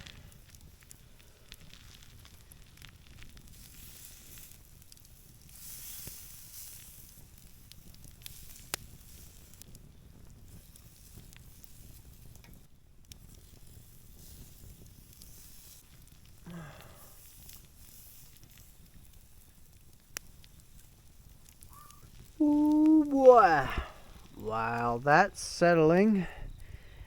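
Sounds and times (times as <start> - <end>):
meat sizzling in a pan: 0.0 - 26.8.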